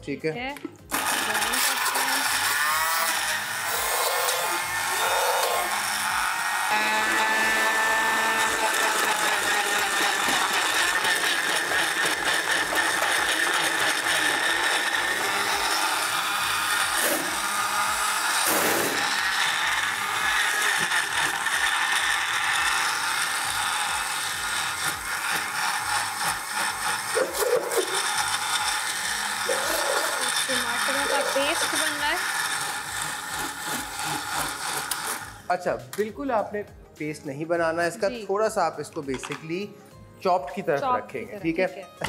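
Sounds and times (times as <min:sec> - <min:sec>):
electric blender running: 0:00.6 - 0:35.8.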